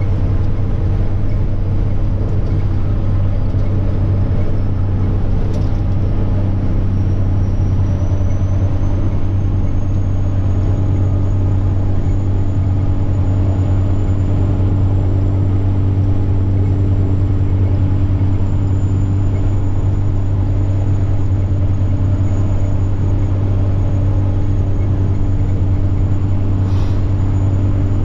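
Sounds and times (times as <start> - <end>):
truck diesel engine droning: 0.0 - 28.0
turbocharger whine: 0.0 - 28.0.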